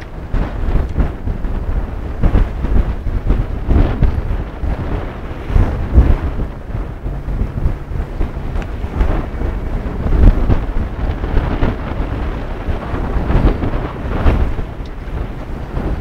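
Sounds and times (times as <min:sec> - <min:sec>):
sea water rushing along hull: 0:00.0 - 0:16.0
wind buffeting microphone: 0:00.0 - 0:16.0.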